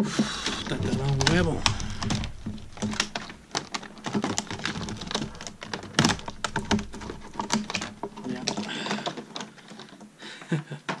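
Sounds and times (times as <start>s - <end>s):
sharp clicks and taps: 0.0s - 10.1s
card and plastic packaging rustling: 0.0s - 10.2s.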